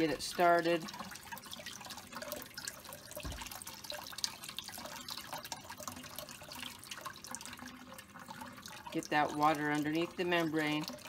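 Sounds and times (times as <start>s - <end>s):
tap water running into sink: 0.0s - 11.0s
water dripping: 0.0s - 11.0s.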